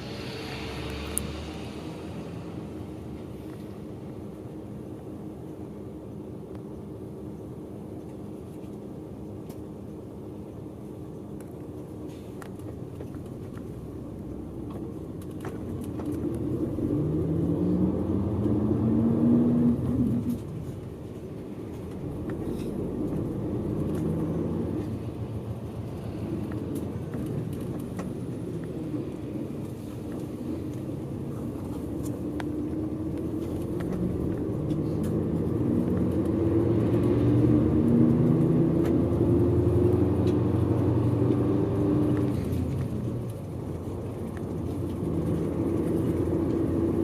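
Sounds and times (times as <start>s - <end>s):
bus engine accelerating: 0.0s - 47.0s
road noise inside bus: 0.0s - 47.0s.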